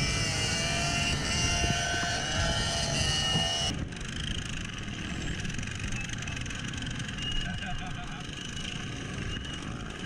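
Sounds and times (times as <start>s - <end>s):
mini bike engine whine: 0.0s - 10.0s
wind and road noise: 0.0s - 10.0s.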